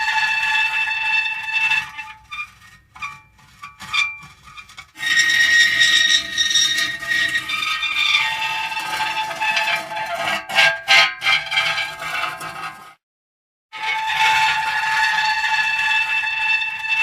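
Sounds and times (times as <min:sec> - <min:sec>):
metal creaking and squealing: 0:00.0 - 0:13.0, 0:13.8 - 0:17.0.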